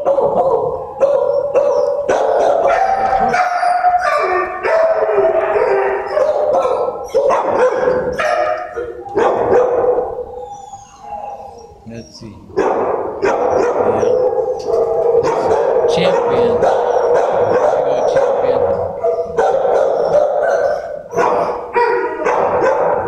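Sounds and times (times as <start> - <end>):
dogs barking and howling: 0.0 - 23.0.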